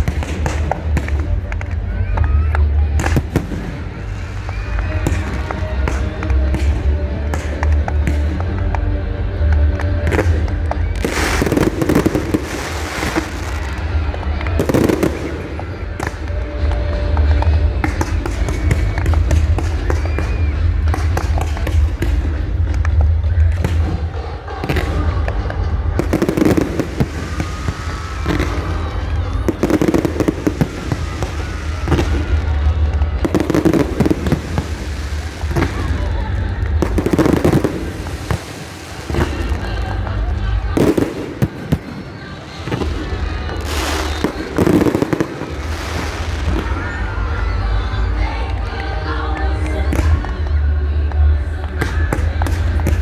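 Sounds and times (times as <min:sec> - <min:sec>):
fireworks crackling and popping: 0:00.0 - 0:48.8, 0:51.4 - 0:53.0.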